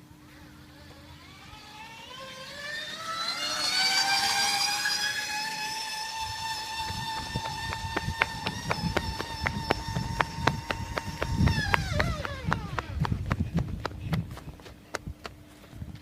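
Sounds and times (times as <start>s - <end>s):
synthetic race car engine whine: 0.0s - 13.1s.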